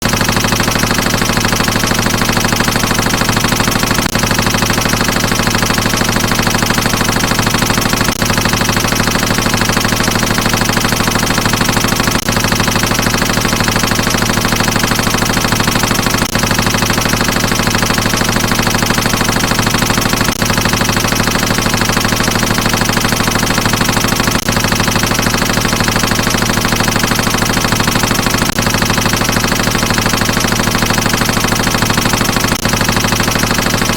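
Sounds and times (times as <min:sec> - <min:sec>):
automatic machine-gun fire: 0:00.0 - 0:33.9.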